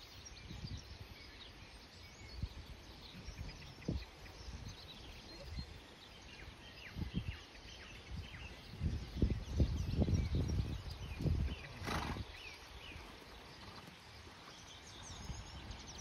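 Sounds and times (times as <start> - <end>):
birds chirping and singing: 0.0 - 16.0
outdoor background hiss: 0.0 - 16.0.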